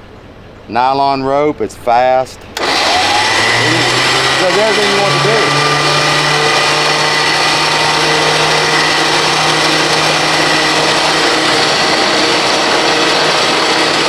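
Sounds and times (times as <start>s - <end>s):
electric winch motor whining: 2.6s - 14.0s.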